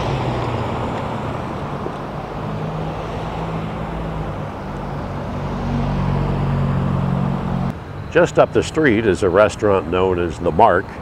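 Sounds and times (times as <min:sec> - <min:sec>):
hum of cars: 0:00.0 - 0:11.0.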